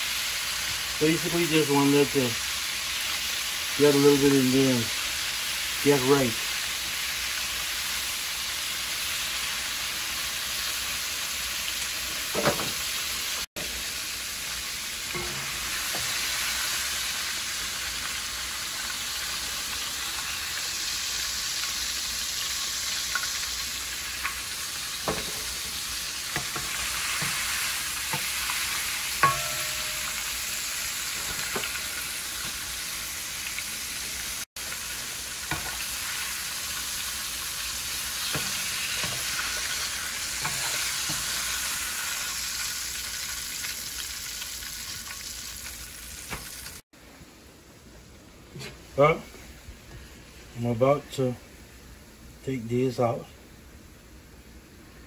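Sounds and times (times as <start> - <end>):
food sizzling in hot oil: 0.0 - 46.8.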